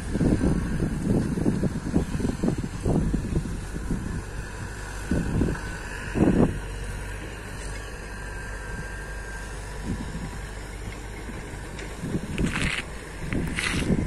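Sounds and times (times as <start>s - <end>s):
excavator diesel engine running: 0.0s - 14.0s
faint thin whine: 0.0s - 14.0s
wind buffeting microphone: 0.0s - 14.0s.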